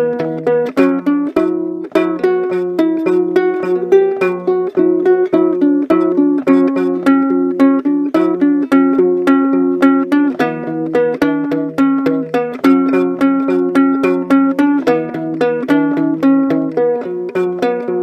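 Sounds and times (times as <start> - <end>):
ukulele strumming chords: 0.0 - 18.0.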